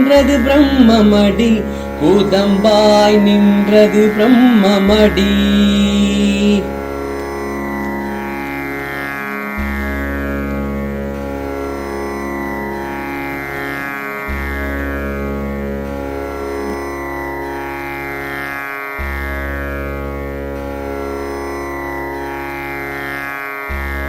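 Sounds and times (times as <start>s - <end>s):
plucked string drone: 0.0s - 24.0s.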